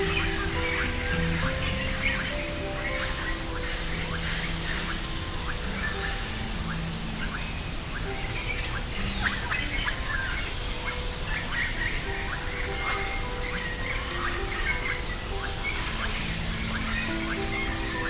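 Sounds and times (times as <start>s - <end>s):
birds chirping: 0.0s - 18.0s
steady high-pitched whine: 0.0s - 18.0s.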